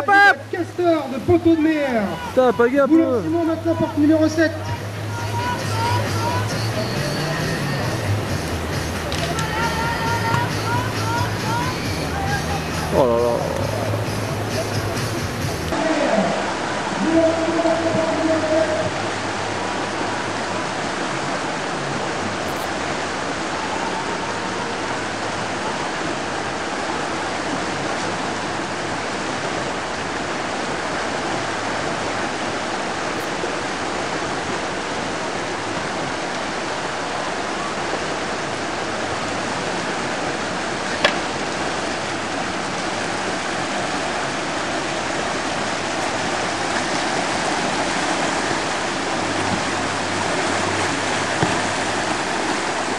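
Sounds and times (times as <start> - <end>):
whitewater rapids rushing: 0.0 - 52.9.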